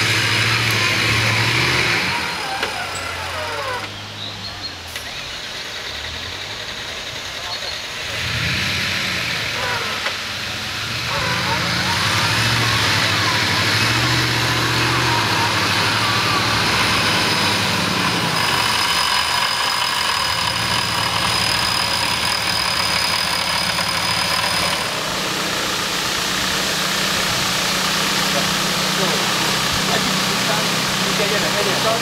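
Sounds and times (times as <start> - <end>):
vehicle engine at low revs: 0.0 - 32.0.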